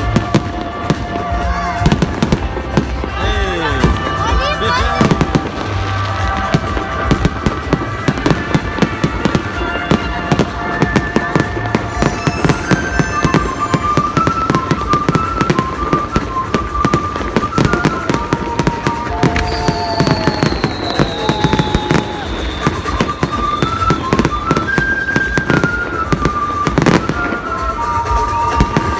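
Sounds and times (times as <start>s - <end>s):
fireworks bangs and crackling: 0.0s - 28.9s
fireworks whistling: 0.0s - 28.9s.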